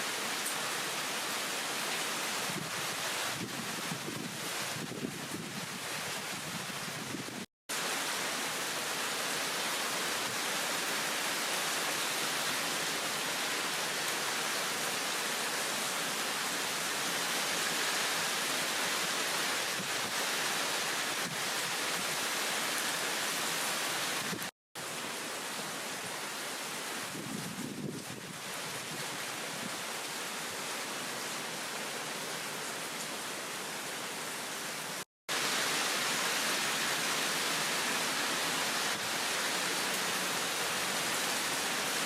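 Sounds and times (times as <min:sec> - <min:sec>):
heavy rain downpour: 0:00.0 - 0:42.0.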